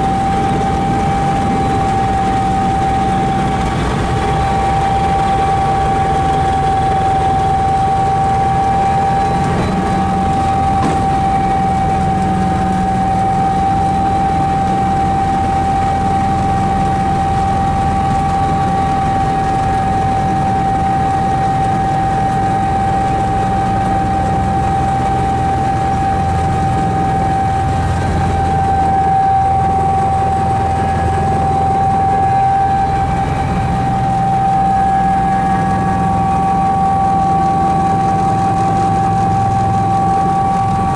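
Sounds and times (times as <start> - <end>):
helicopter engine and rotor din: 0.0 - 40.9
high-pitched whine: 0.0 - 40.9.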